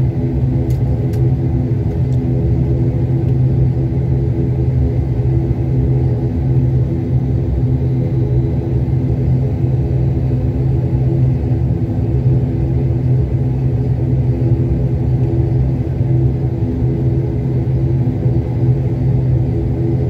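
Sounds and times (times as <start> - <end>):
jet engines humming in cabin: 0.0 - 20.0.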